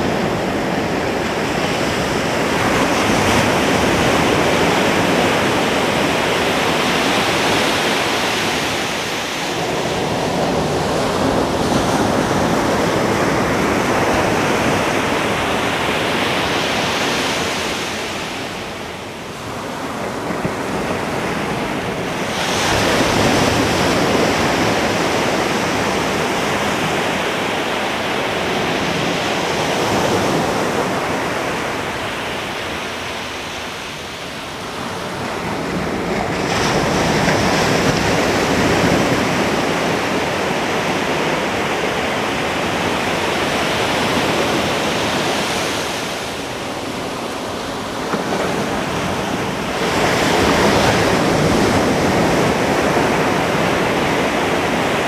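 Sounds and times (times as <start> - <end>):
ocean waves breaking on beach: 0.0 - 55.0
wind on microphone: 0.0 - 55.0.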